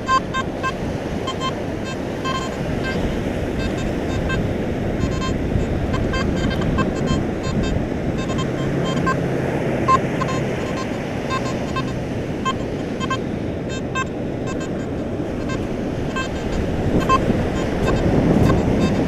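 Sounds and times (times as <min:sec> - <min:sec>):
metal detector beeps: 0:00.0 - 0:09.2, 0:09.8 - 0:19.0
surf: 0:00.0 - 0:19.0
wind: 0:00.0 - 0:19.0.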